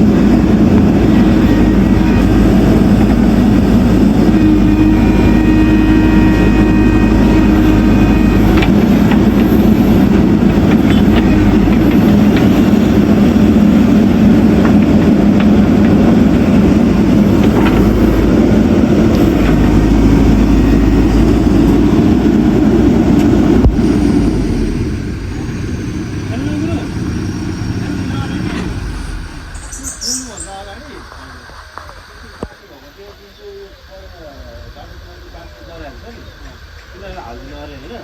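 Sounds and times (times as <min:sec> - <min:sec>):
diesel earthmoving machinery running: 0:00.0 - 0:38.0.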